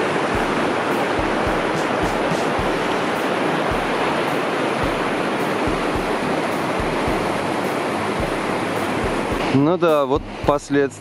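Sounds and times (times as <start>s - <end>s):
low thumps: 0.0s - 10.7s
whitewater rushing over rocks: 0.0s - 11.0s.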